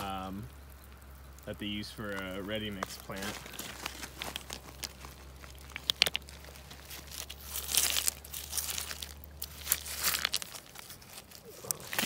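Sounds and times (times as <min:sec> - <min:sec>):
stones scraping: 0:00.0 - 0:12.0
wet stones clacking: 0:00.0 - 0:12.0.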